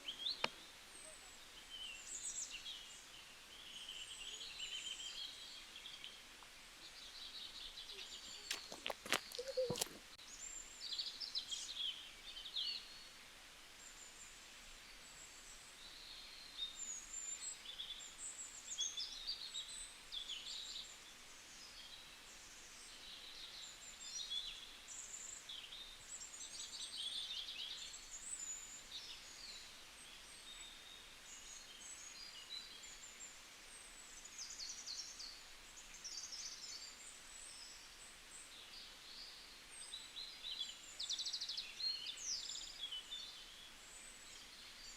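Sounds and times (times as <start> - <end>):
small birds chirping and singing: 0.0 - 13.1, 15.1 - 44.9.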